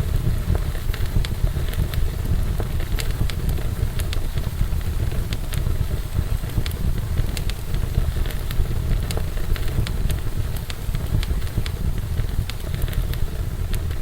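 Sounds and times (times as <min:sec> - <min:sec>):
low roar of flames: 0:00.0 - 0:14.0
wood fire crackles and pops: 0:00.0 - 0:14.0.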